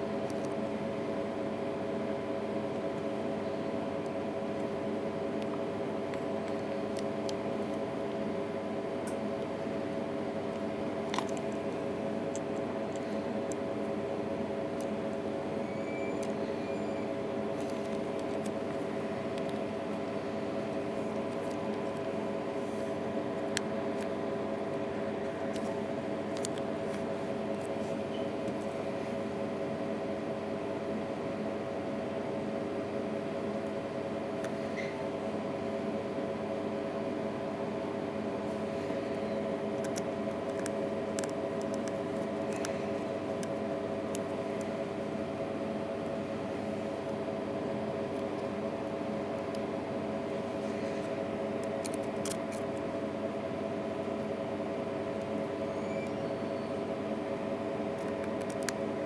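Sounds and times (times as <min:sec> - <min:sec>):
droning hum of held tones: 0:00.0 - 0:59.0.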